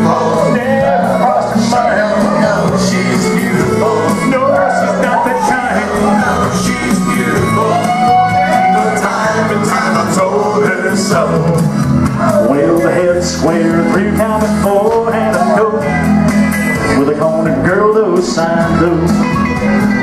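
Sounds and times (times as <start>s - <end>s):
person singing into microphone: 0.0s - 19.6s
country music with steady beat: 0.0s - 20.0s.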